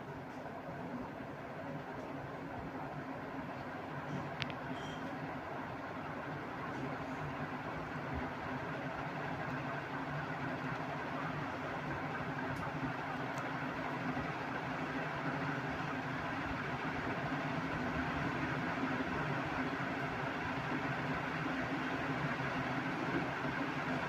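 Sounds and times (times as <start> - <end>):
fan motor hum: 0.0 - 24.0.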